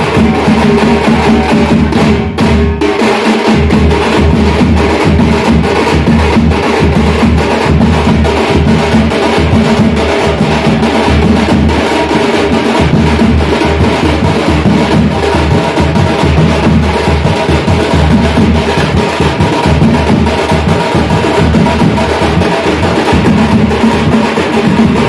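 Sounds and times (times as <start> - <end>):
frame drums beaten with sticks: 0.0 - 25.0.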